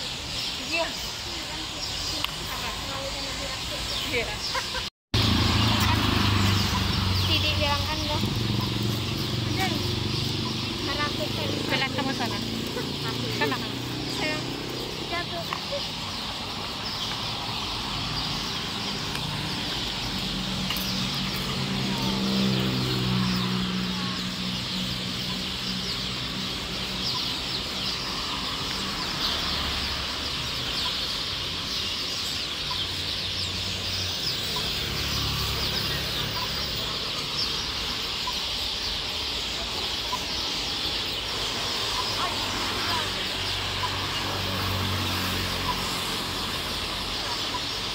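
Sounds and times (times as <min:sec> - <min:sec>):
car engines passing: 0:00.4 - 0:47.9.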